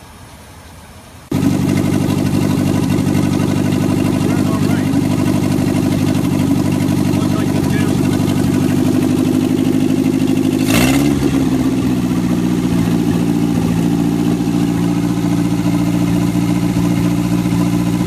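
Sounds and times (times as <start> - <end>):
car engine running and revving: 1.3 - 18.0.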